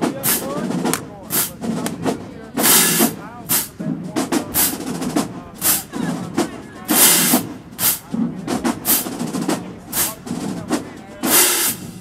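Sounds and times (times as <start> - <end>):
snare and bass drums: 0.0 - 12.0.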